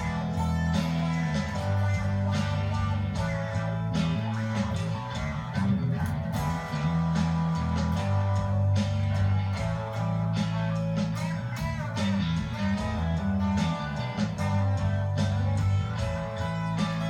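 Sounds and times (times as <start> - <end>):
electric guitar jamming: 0.0 - 17.0
sustained bass line: 0.0 - 17.0.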